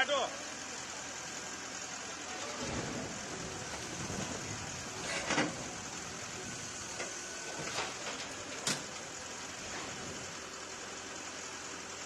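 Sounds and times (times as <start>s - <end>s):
bulldozer engine running: 0.0s - 12.0s.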